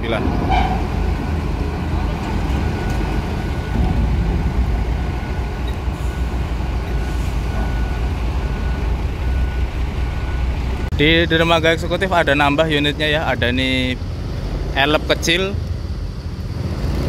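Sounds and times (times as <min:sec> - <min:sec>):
bus diesel engine rumbling: 0:00.0 - 0:17.0.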